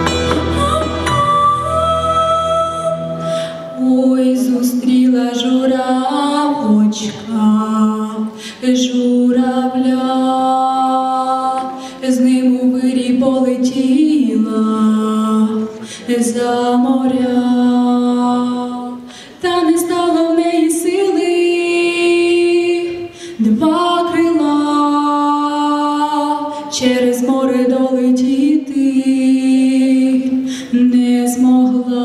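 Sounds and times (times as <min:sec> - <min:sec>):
girl singing into microphone: 0:00.0 - 0:32.0.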